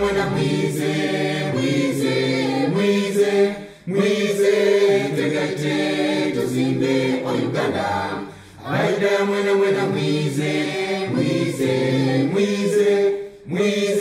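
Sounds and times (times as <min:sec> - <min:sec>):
choir singing in harmony: 0:00.0 - 0:14.0.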